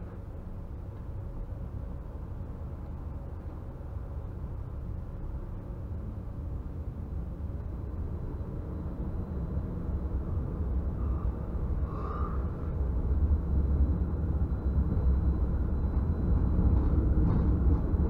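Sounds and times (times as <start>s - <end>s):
tram rumble: 0.0s - 18.0s.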